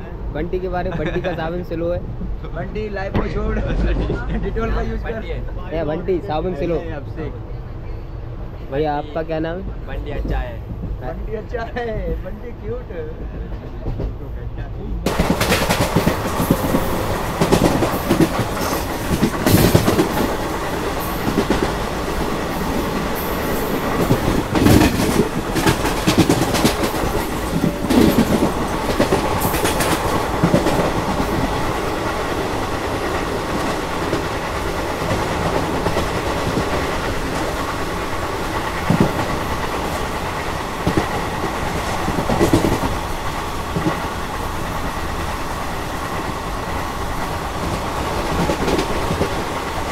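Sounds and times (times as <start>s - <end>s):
rumble of train wheels on rail: 0.0s - 49.9s
clickety-clack over rail joints: 0.7s - 6.0s, 9.7s - 49.9s.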